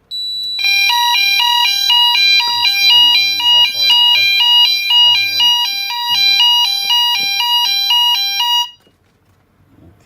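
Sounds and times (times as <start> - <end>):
fire alarm two-tone warble: 0.0 - 8.8.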